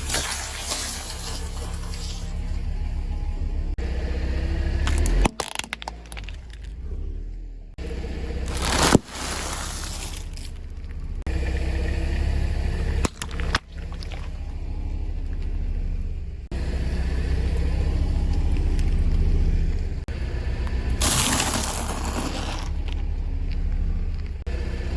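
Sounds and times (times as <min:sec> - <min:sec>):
car engine rumbling low: 0:00.0 - 0:24.9
loud crunching under tires: 0:00.0 - 0:24.9.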